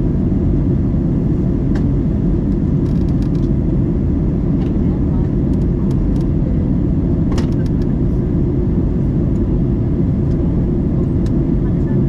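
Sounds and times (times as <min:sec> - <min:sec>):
airliner cabin roar: 0:00.0 - 0:12.0.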